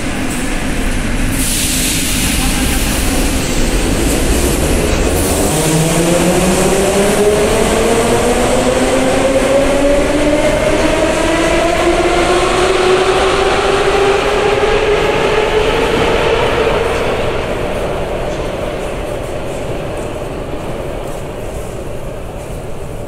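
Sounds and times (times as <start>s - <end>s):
rumble of train wheels: 0.0s - 23.0s.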